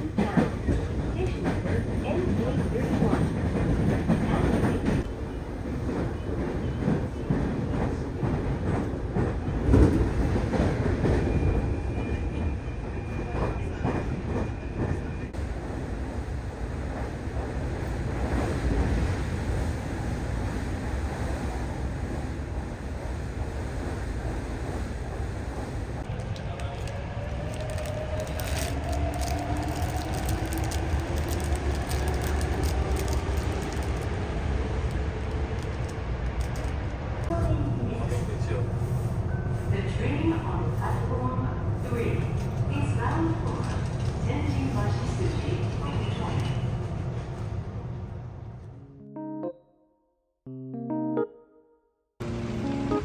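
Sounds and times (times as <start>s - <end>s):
train rumbling on rails: 0.0s - 48.8s, 52.2s - 53.0s.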